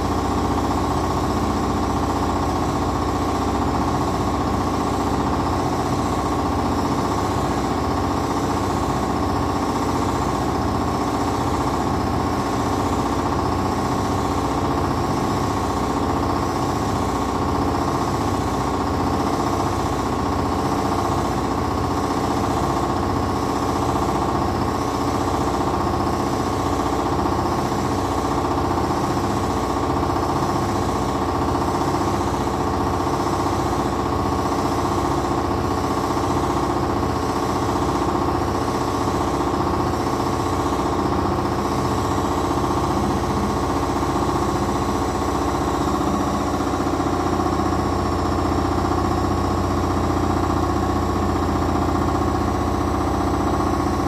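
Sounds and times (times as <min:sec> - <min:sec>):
washing machines humming: 0:00.0 - 0:54.0.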